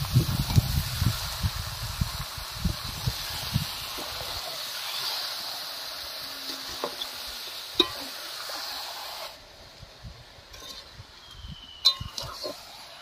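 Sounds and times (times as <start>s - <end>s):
chicken sizzling in a pan: 0.0s - 9.4s, 10.5s - 13.0s.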